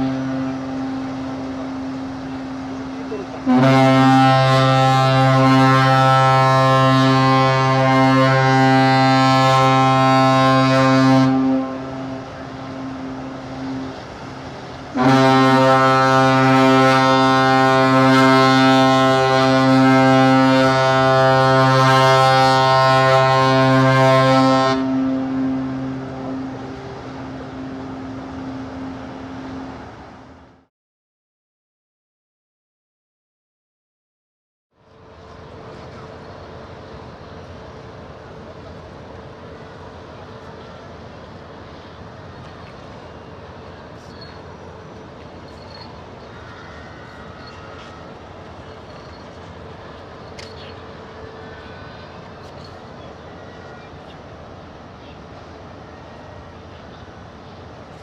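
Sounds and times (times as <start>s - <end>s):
ship's horn blasts: 0.0s - 30.7s, 34.8s - 58.0s.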